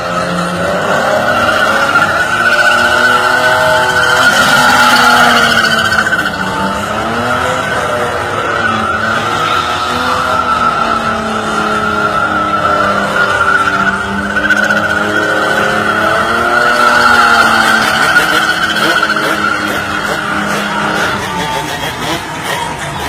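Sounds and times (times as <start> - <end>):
car engine at high revs: 0.0 - 23.0
loud high squeal: 0.1 - 22.2.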